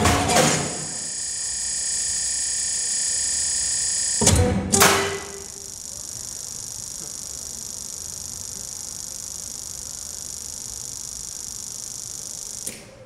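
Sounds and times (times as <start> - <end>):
high-pitched electronic hiss: 0.0 - 13.0.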